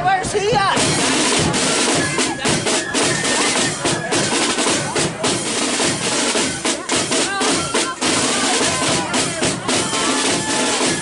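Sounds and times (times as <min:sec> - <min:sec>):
snare drums marching beat: 0:00.2 - 0:11.0.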